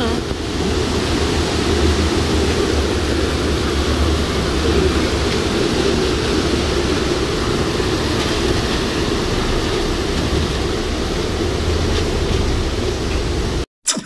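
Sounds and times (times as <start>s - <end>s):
river rushing: 0.0s - 13.6s
vehicle rumbling over bridge: 0.0s - 13.6s.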